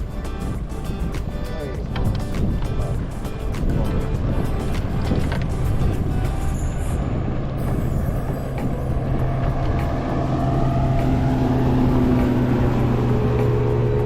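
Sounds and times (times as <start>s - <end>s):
boat motor running: 0.0s - 14.0s
water noise: 0.0s - 14.0s
wind: 0.0s - 14.0s.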